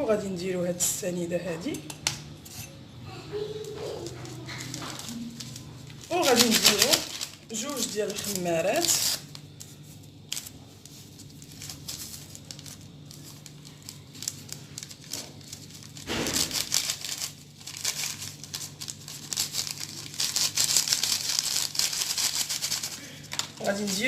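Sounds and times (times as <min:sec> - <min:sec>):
packets tearing and crinkling: 0:03.8 - 0:24.0.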